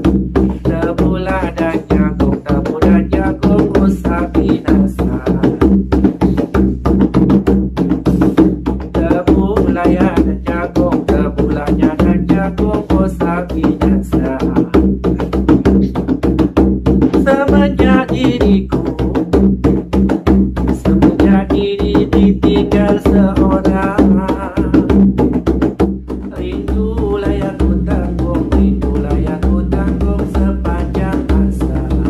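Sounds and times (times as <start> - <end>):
hand drum rhythm: 0.0 - 32.0.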